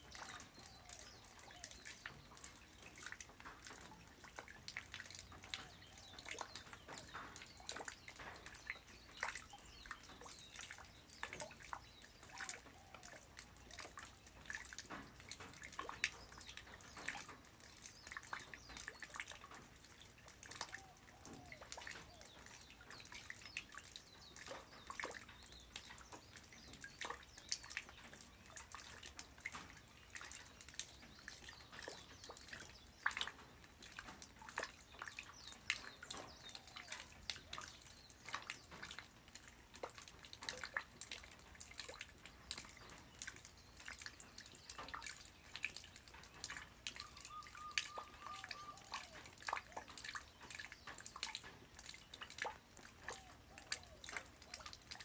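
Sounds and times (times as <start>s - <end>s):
light rain falling on ground: 0.0s - 55.0s.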